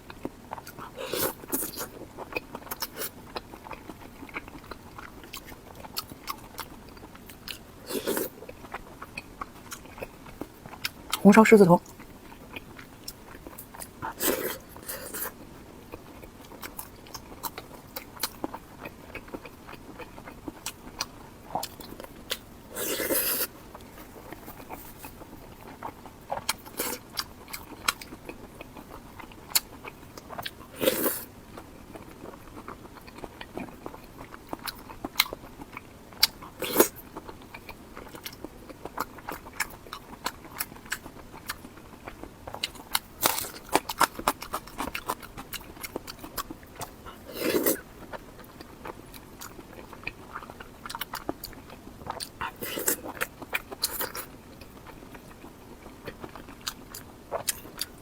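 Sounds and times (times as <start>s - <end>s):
person chewing: 0.1s - 58.0s.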